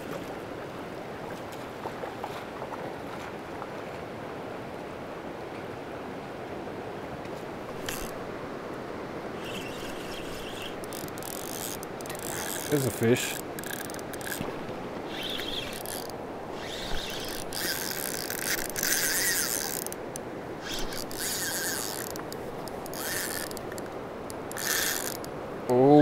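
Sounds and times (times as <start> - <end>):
river water babbling over stones: 0.0 - 26.0.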